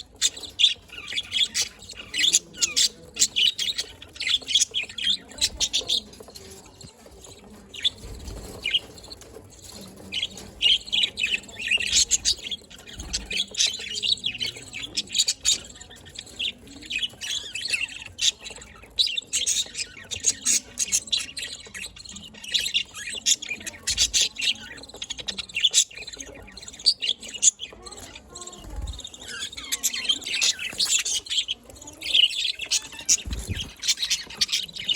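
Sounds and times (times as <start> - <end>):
budgerigars chirping and squawking: 0.0 - 34.9.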